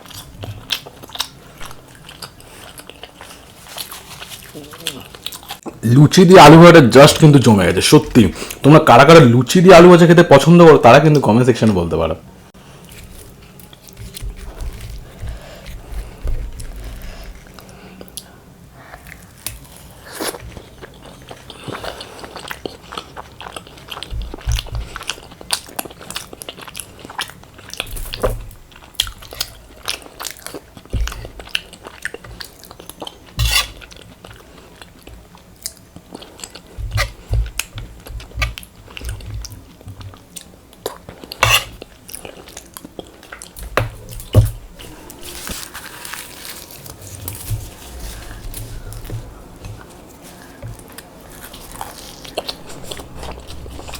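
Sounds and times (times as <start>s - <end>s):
chewing and crunching food: 0.0s - 5.8s, 12.6s - 53.9s.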